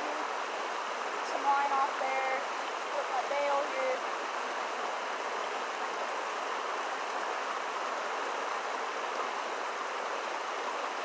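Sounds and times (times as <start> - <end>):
creek water rushing over falls: 0.0 - 11.0.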